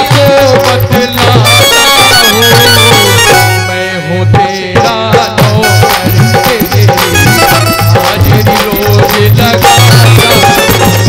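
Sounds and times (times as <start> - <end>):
hand drum beat: 0.0 - 3.6, 4.4 - 11.0
electronic keyboard melody: 0.0 - 11.0.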